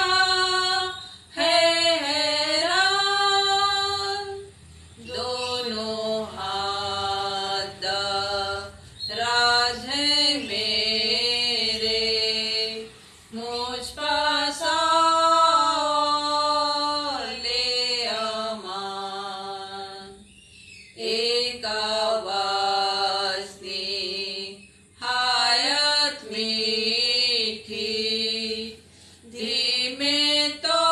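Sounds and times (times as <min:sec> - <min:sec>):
women singing a hymn: 0:00.0 - 0:20.3, 0:20.9 - 0:30.9.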